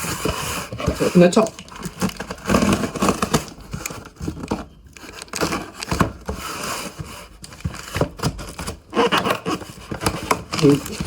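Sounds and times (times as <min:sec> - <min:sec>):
cardboard rustling and scraping: 0:00.0 - 0:11.0
packing tape tearing: 0:00.0 - 0:11.0.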